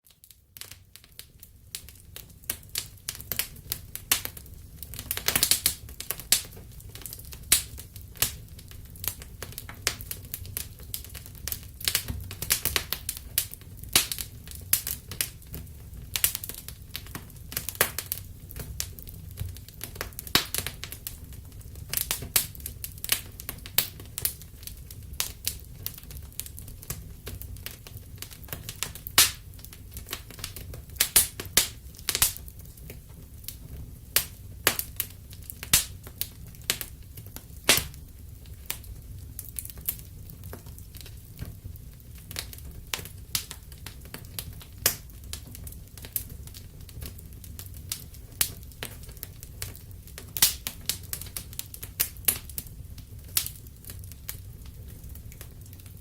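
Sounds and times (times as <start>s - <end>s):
wood fire crackling and popping: 0.0s - 56.0s
low rumble of burning: 0.1s - 56.0s.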